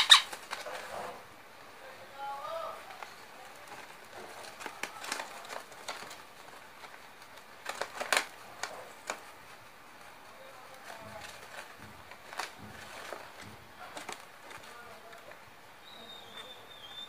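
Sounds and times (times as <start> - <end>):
paper crinkling: 0.0 - 1.2, 2.7 - 17.0.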